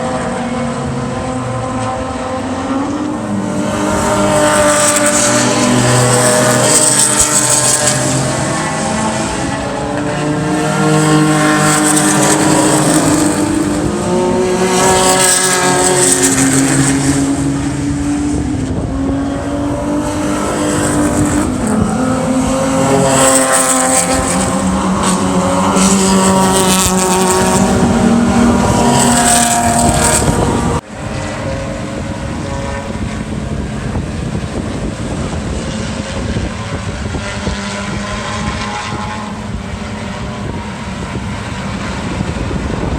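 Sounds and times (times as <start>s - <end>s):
race cars passing at speed: 0.0s - 42.9s.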